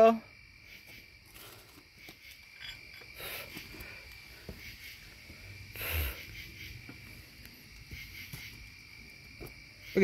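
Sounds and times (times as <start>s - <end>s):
high-pitched insect trill: 0.0s - 10.0s.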